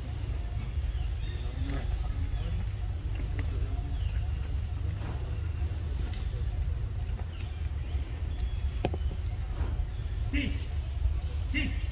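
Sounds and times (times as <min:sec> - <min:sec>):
bird calling: 0:00.0 - 0:11.9
steady low rumble: 0:00.0 - 0:11.9.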